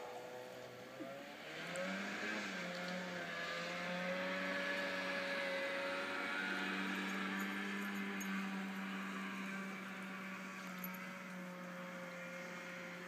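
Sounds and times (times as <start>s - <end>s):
snowmobile engine running: 1.1s - 13.0s.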